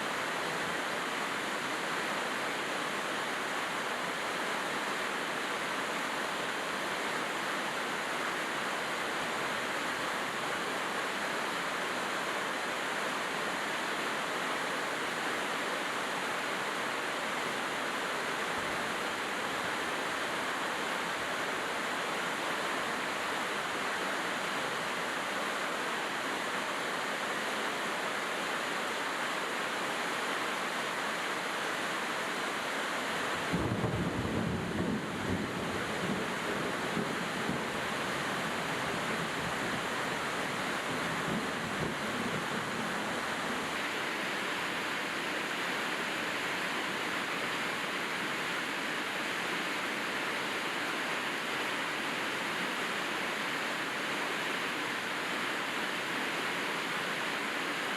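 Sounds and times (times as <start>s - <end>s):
rain falling steadily: 0.0s - 57.9s.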